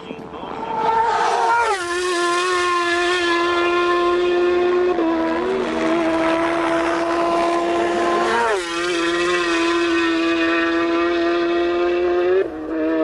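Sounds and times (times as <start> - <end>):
racing motorcycle engine high revs: 0.9 - 13.0.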